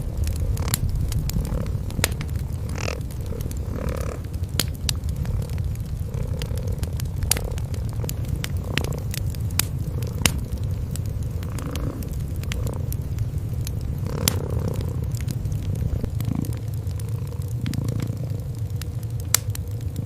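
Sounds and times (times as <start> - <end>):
cats purring: 0.0 - 20.0
wood fire crackling: 0.0 - 20.0.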